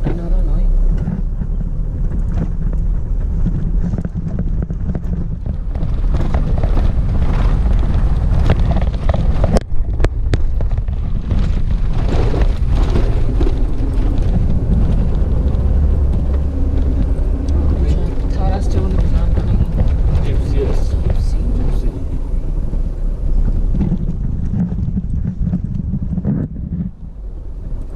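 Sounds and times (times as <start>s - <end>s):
low engine rumble: 0.0s - 27.9s
wind on microphone: 0.0s - 27.9s.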